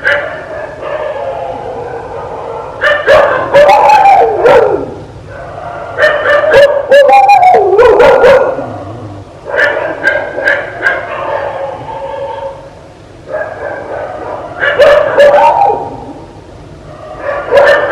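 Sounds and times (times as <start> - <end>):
dog barking and yelping: 0.0 - 12.6, 13.3 - 16.2, 17.0 - 17.9.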